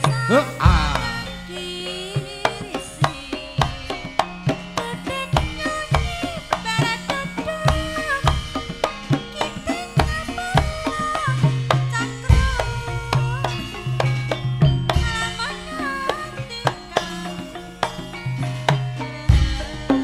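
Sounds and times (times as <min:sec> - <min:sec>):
sliding melody line: 0:00.0 - 0:18.4.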